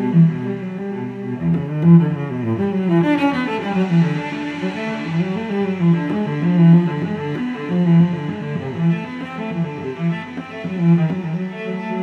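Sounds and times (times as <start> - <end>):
plucked and bowed strings melody: 0.0 - 12.0.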